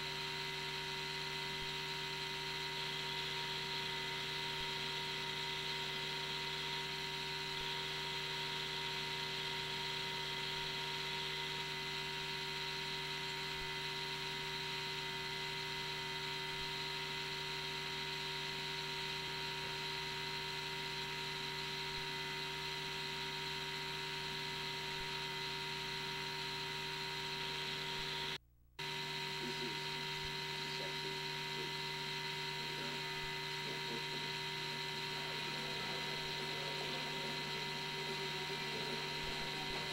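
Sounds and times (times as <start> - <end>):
electrical hum with high whine: 0.0 - 39.9.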